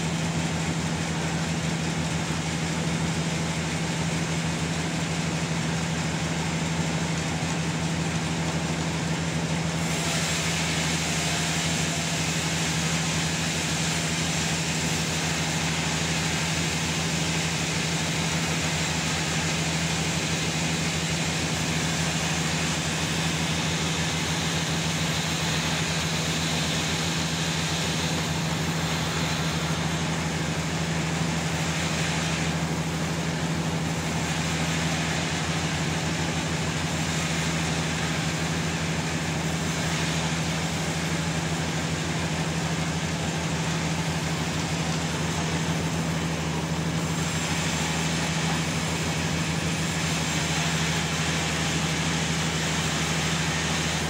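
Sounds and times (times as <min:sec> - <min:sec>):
sawmill machinery hum: 0:00.0 - 0:54.0
broad rushing noise: 0:09.8 - 0:54.0.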